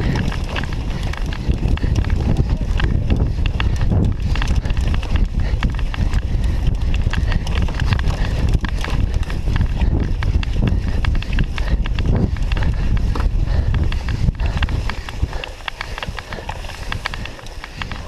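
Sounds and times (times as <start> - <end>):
bike rattling over rutted ground: 0.0 - 18.0.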